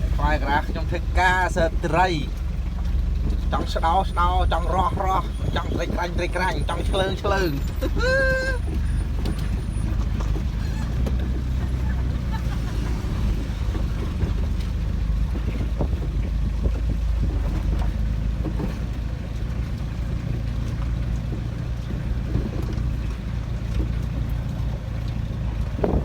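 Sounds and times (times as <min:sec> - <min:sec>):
road and wind noise: 0:00.0 - 0:26.0
truck engine drone: 0:00.0 - 0:26.0.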